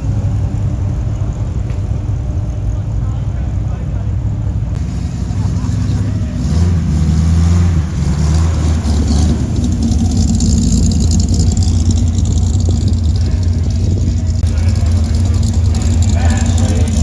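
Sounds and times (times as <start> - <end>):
car engine running loudly: 0.0 - 17.0.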